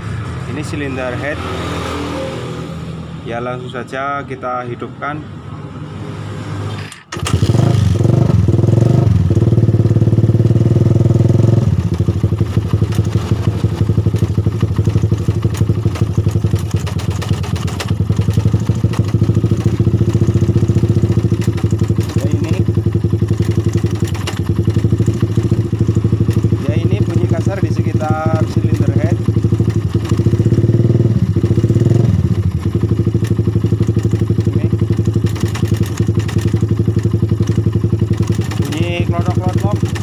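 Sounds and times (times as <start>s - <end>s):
motorcycle engine starting and idling: 6.7s - 40.0s
rough engine ticking: 7.2s - 40.0s.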